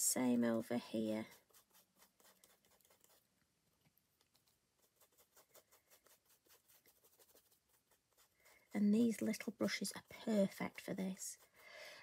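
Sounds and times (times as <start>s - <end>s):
ink brush dabbing on paper: 0.3s - 12.0s.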